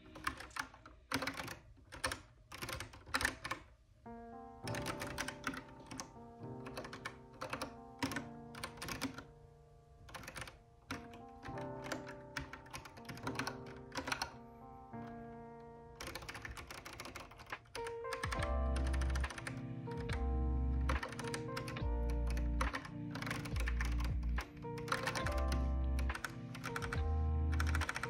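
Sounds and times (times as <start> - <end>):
keyboard typing clicks: 0.0 - 3.7, 4.7 - 9.3, 10.1 - 28.0
mellow background music: 0.0 - 28.0.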